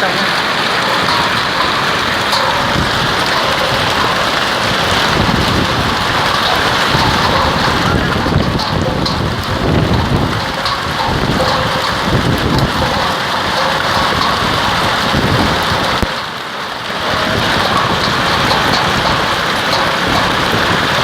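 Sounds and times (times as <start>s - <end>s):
hail and rain pelting down: 0.0s - 21.0s.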